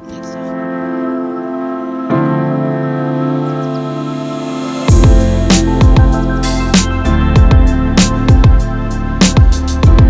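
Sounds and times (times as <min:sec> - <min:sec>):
electronic music with a beat: 0:00.0 - 0:10.0.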